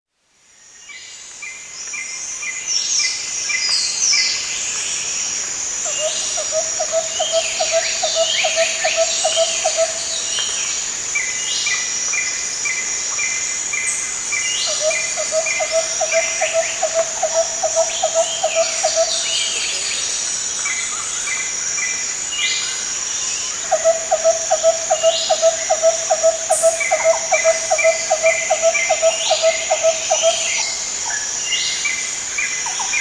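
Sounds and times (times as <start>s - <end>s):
high insect drone: 4.5s - 33.0s.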